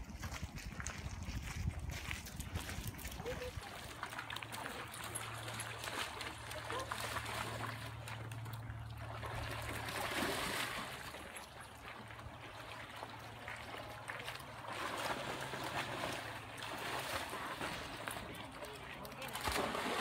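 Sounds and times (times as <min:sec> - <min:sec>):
water sloshing from swimming dogs: 0:00.0 - 0:20.0.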